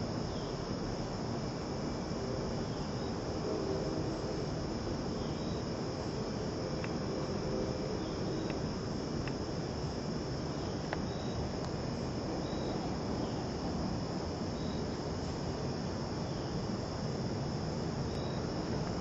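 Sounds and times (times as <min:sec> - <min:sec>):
background hiss: 0:00.0 - 0:19.0
insects droning: 0:00.0 - 0:19.0.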